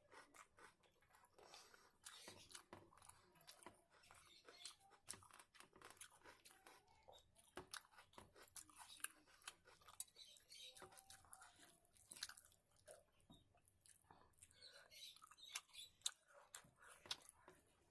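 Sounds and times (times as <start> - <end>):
person chewing food: 0.0 - 17.9.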